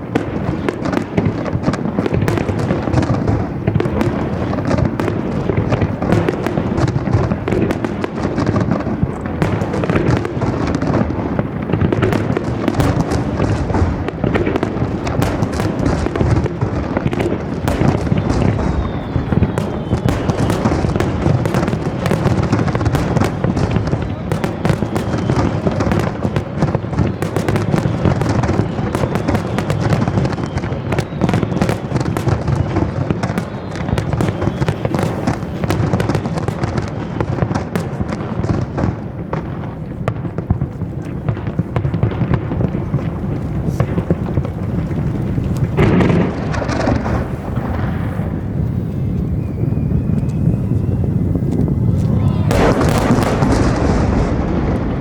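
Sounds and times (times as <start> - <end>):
faint falling firework whistles: 0.0 - 55.0
fireworks booming and crackling: 0.0 - 55.0.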